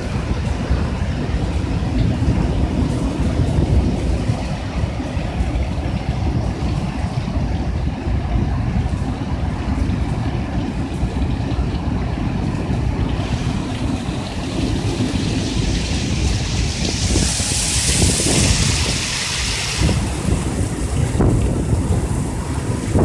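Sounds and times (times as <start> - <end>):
wind buffeting microphone: 0.0 - 23.0
wind-driven rain hiss: 0.0 - 23.0.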